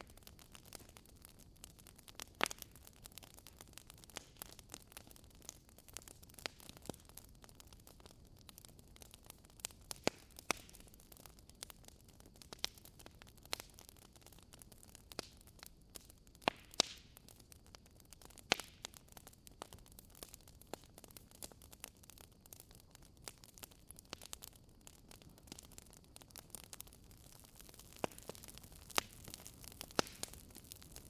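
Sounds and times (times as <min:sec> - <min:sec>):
faint steady hiss: 0:00.0 - 0:31.0
wood fire crackling: 0:00.0 - 0:31.0.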